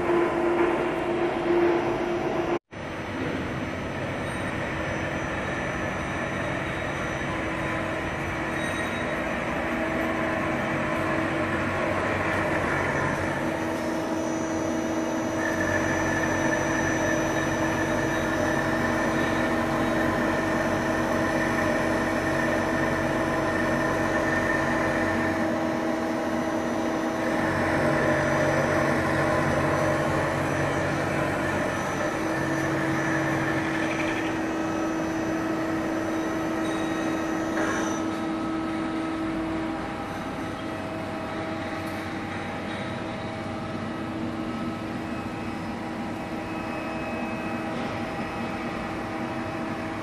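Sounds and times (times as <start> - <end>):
machine mechanical hum: 0.0 - 50.0
machine whining tones: 0.0 - 50.0.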